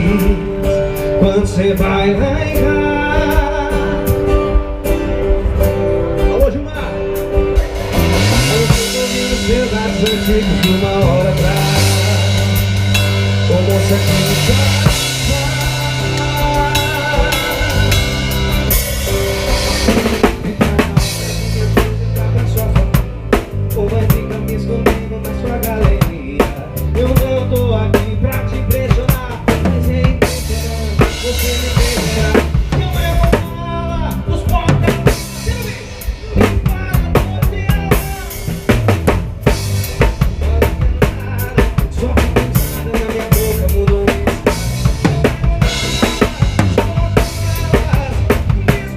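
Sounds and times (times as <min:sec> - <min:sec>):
drum kit playing: 0:00.0 - 0:48.9
live band music: 0:00.0 - 0:48.9.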